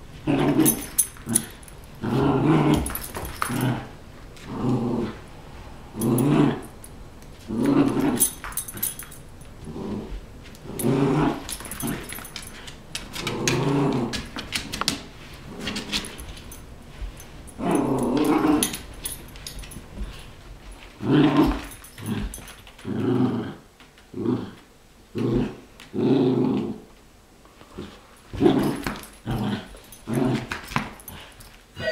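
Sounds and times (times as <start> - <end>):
dogs play growling: 0.1 - 27.0, 27.6 - 31.9.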